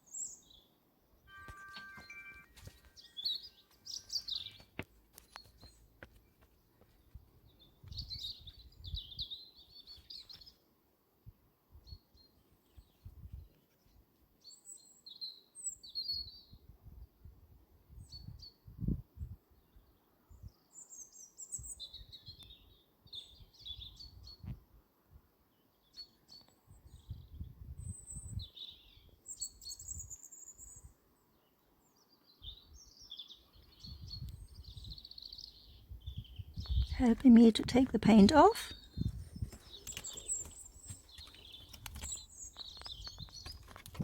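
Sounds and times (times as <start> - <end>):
small birds chirping: 0.0 - 10.7, 11.8 - 16.7, 19.5 - 24.6, 25.5 - 44.0.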